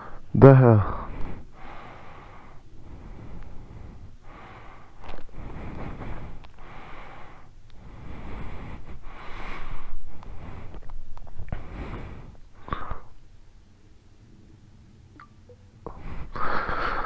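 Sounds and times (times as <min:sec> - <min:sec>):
person breathing heavily: 0:00.0 - 0:13.2, 0:15.9 - 0:17.0.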